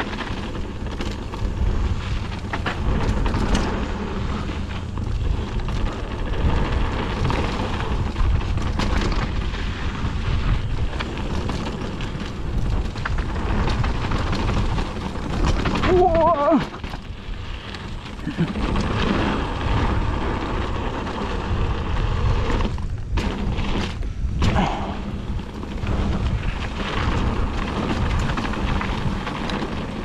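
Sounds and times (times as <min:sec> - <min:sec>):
bike rattling over bumps: 0:00.0 - 0:30.0
bike tyres crunching on gravel: 0:00.0 - 0:30.0
wind on microphone: 0:00.0 - 0:30.0.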